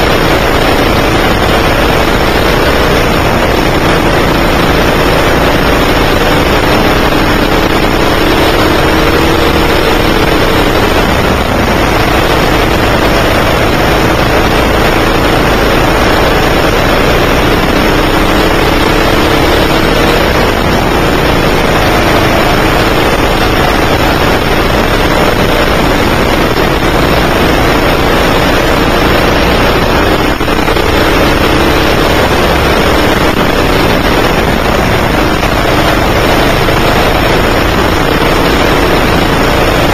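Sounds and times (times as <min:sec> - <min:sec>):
go-kart engine revving: 0:00.0 - 0:39.9
loud rush of noise: 0:00.0 - 0:39.9.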